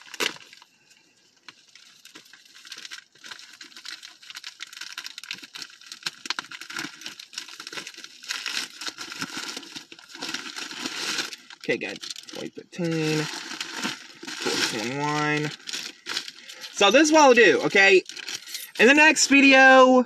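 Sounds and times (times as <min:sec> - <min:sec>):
plastic bag crinkling and tearing: 0:00.0 - 0:19.8.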